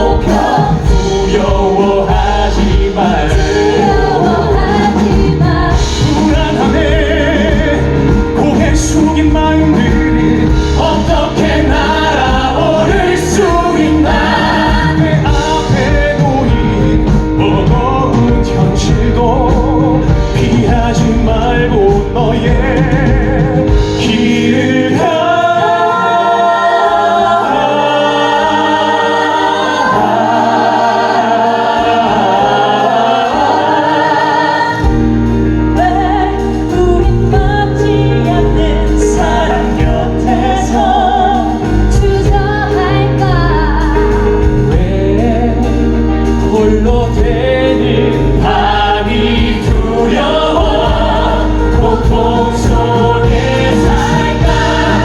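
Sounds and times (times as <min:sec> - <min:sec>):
heavy bass line: 0:00.0 - 0:25.4, 0:34.8 - 0:55.0
band accompaniment: 0:00.0 - 0:55.0
voices singing in harmony: 0:00.0 - 0:55.0.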